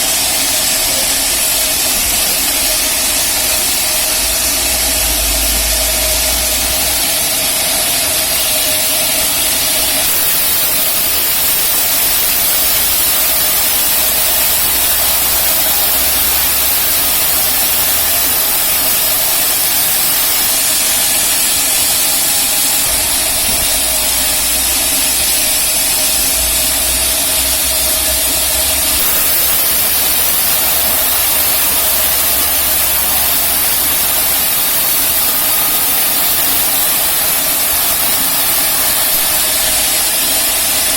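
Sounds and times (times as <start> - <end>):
band sawmill sawing log: 0.0 - 40.9.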